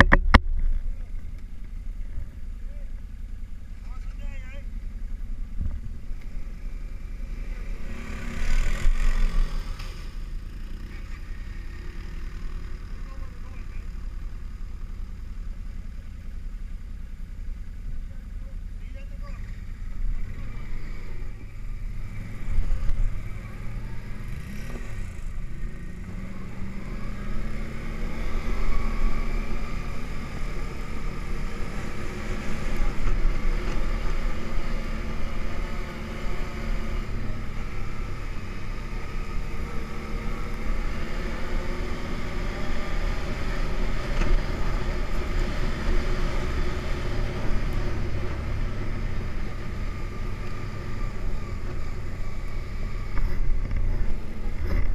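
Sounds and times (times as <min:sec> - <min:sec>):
constant low rumble: 0:00.0 - 0:27.9, 0:28.5 - 0:54.9
atv engine: 0:00.0 - 0:54.9.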